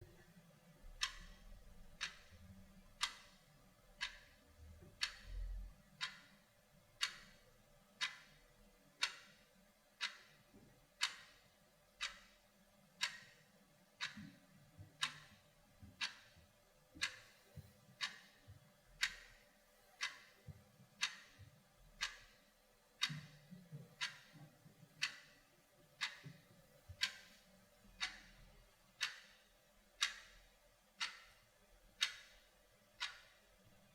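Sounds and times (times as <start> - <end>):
clock ticking: 0.1 - 33.9.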